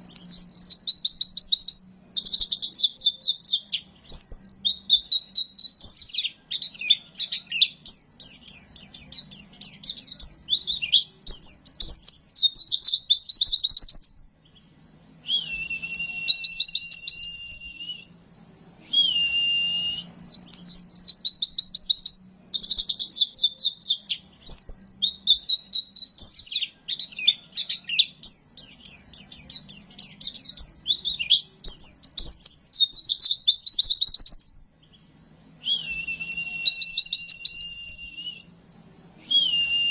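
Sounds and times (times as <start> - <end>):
faint low hum: 0.0 - 39.9
white-eye bird trilling song: 0.0 - 39.9.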